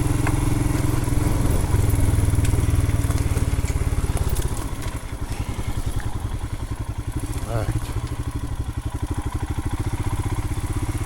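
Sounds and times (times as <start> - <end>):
single-cylinder engine running: 0.0 - 11.0.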